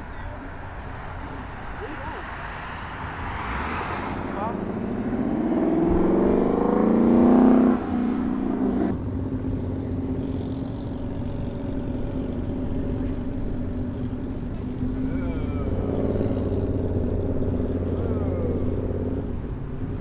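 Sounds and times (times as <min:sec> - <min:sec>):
car engine revving: 0:02.4 - 0:20.0.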